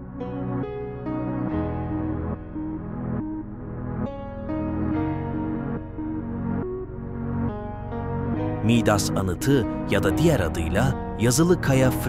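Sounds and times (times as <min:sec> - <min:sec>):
calm ambient instrumental music: 0:00.0 - 0:12.0.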